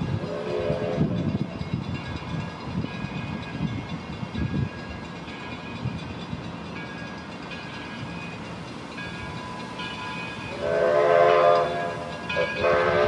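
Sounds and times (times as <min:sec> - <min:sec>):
steam locomotive rumbling: 0:00.0 - 0:13.0.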